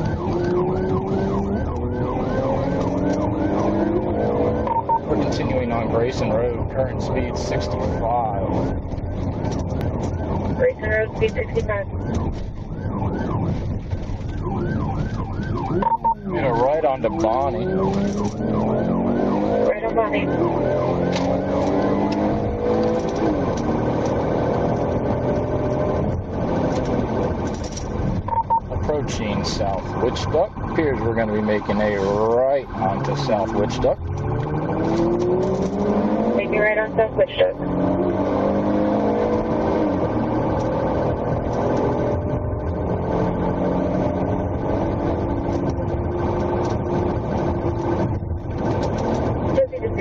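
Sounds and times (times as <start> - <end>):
car engine inside car: 0.0 - 50.0
road noise: 0.0 - 50.0.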